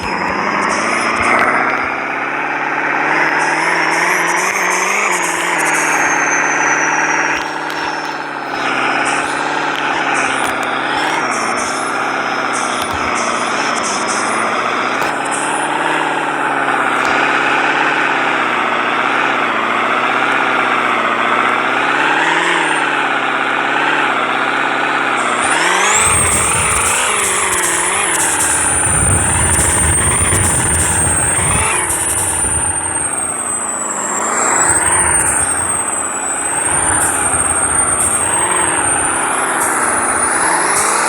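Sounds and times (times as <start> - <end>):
vehicle engine revving: 0.0 - 41.0.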